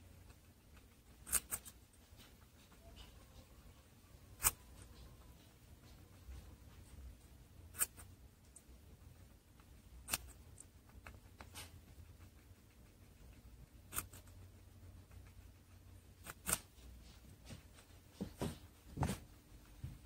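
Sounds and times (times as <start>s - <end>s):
guinea pig crunching food: 0.0s - 19.8s
quiet low hum: 0.0s - 20.0s.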